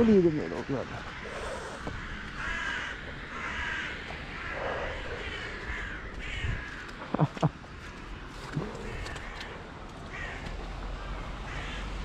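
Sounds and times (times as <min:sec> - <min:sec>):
crow cawing: 0:00.9 - 0:12.0.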